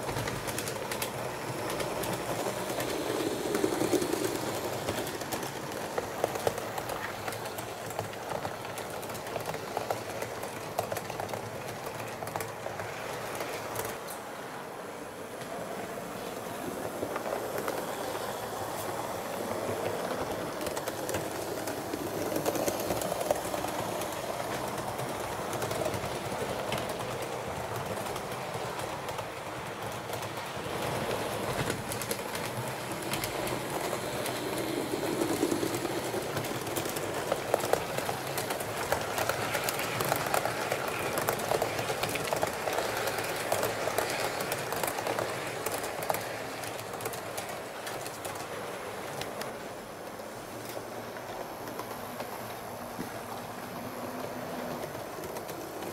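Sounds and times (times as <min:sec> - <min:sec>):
small track clicks: 0:00.0 - 0:14.2, 0:19.6 - 0:55.9
model train rolling rumble: 0:00.0 - 0:55.9.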